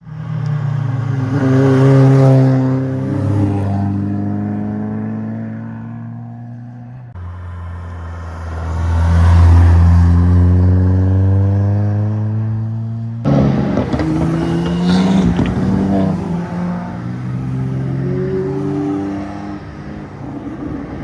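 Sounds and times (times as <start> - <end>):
cars passing and accelerating: 0.0 - 21.0.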